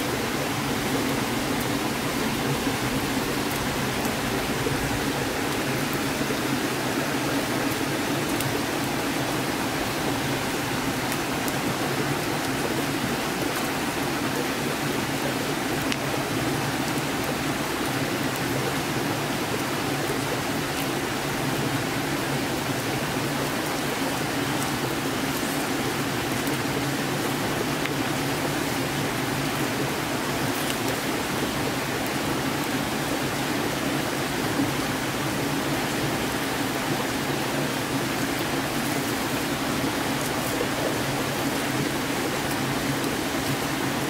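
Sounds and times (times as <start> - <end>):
stream water flowing: 0.0 - 44.0.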